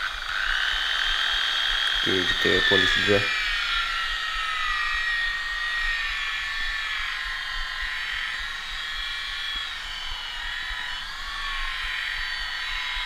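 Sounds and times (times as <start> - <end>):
electric polisher motor whine: 0.0 - 13.0.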